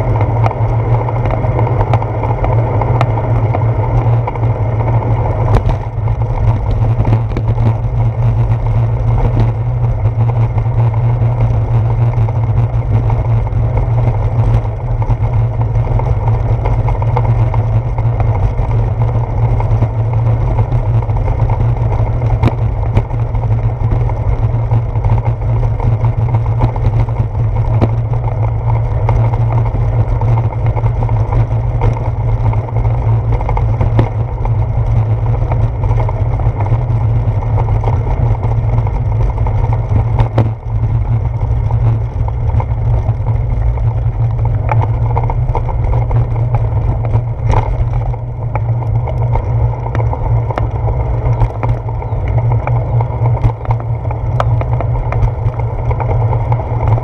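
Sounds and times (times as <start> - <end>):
bicycle tyres rumbling on bricks: 0.0 - 57.0.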